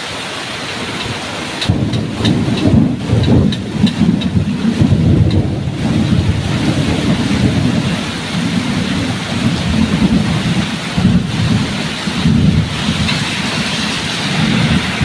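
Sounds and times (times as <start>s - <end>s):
heavy rain: 0.0s - 15.0s
thunder rumbling: 0.8s - 15.0s.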